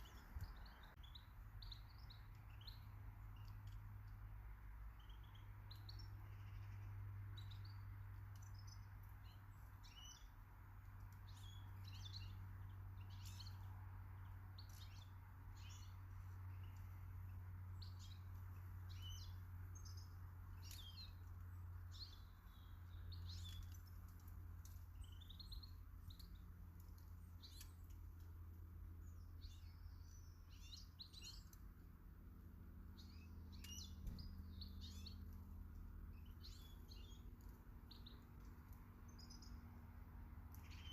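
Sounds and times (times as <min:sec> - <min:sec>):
low steady hum: 0:00.0 - 0:40.9
small birds chirping: 0:00.0 - 0:40.9.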